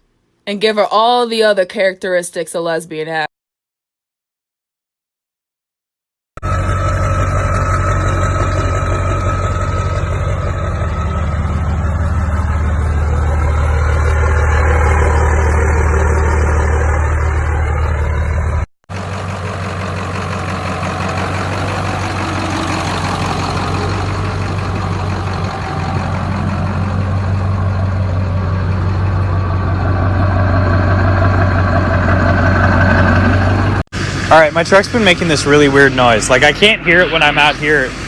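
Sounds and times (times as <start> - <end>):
diesel truck engine humming: 6.4 - 38.0
second truck engine running: 6.4 - 38.0.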